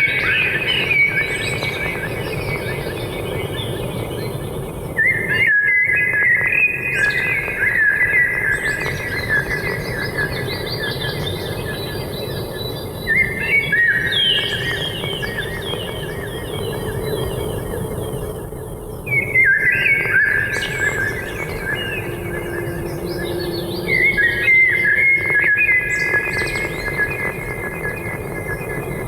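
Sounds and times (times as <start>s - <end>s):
small songbirds chirping: 0.0s - 29.0s.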